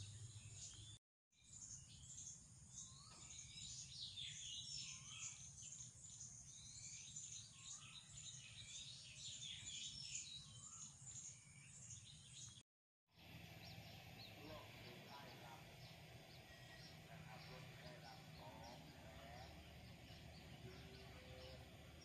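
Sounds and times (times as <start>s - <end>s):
small birds chirping: 0.0s - 12.6s, 13.2s - 22.0s.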